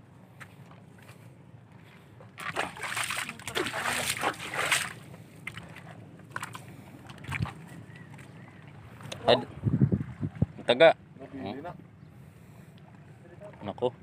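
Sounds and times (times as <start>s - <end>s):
water splashing and sloshing: 0.3s - 14.0s.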